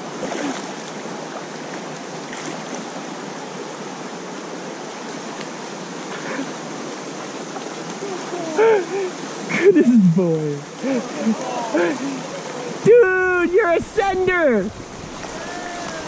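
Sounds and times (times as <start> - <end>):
river rapid rushing: 0.0 - 16.0.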